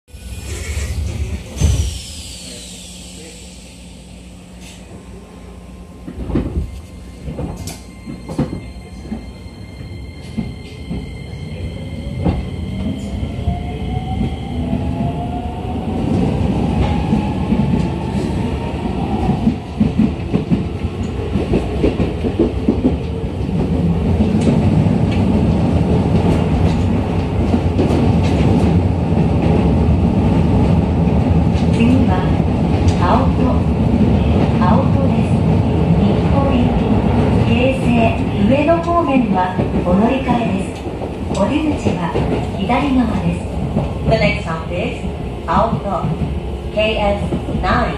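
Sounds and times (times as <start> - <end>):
rumble of wheels on rails: 3.6 - 47.9.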